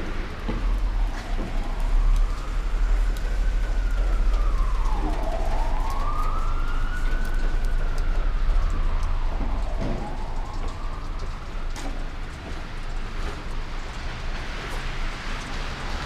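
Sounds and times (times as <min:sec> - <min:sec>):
emergency vehicle siren wailing: 0:00.0 - 0:16.0
low street rumble: 0:00.0 - 0:16.0.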